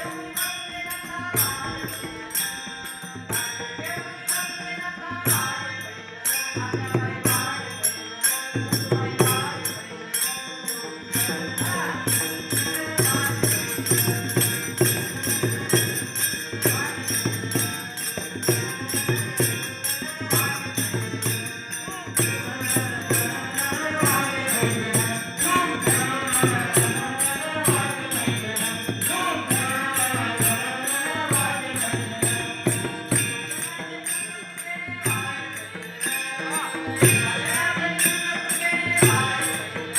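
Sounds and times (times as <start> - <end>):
metallic hand percussion and drum: 0.0 - 39.9.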